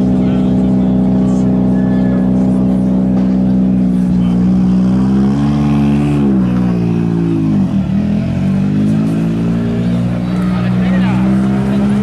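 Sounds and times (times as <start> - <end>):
rally car engine running: 0.0 - 12.0.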